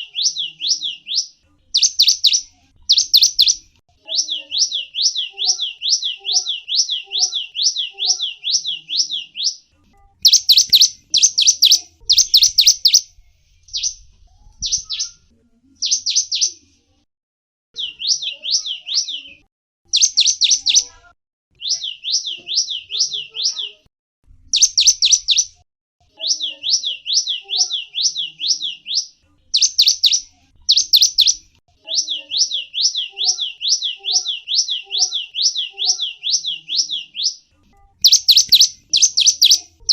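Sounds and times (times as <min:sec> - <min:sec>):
small bird chirping: 0:00.0 - 0:16.7, 0:17.8 - 0:21.0, 0:21.6 - 0:23.8, 0:24.5 - 0:39.9.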